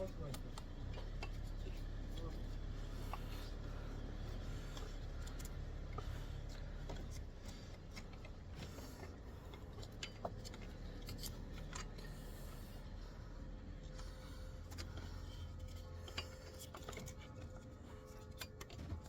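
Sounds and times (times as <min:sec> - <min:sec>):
low hum: 0:00.4 - 0:19.0.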